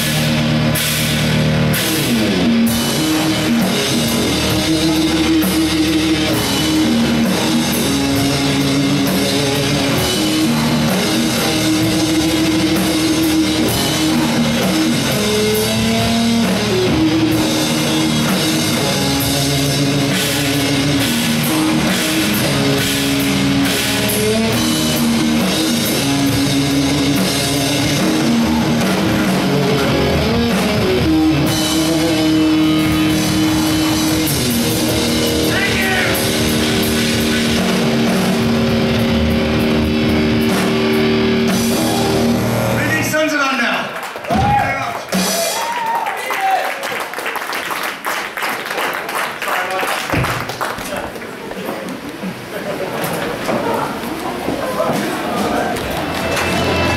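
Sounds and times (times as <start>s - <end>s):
electric guitar riffs: 0.0s - 46.2s, 55.4s - 56.9s
drum kit: 0.0s - 48.4s, 52.3s - 56.9s.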